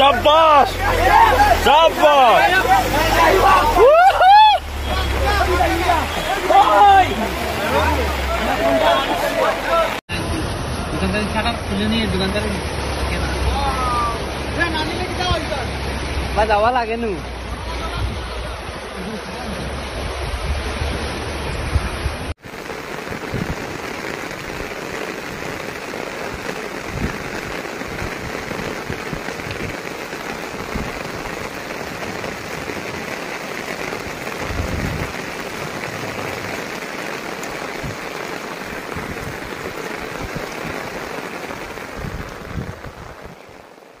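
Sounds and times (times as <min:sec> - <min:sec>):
floodwater rushing around vehicle: 0:00.0 - 0:44.0
heavy rain hissing: 0:00.0 - 0:44.0.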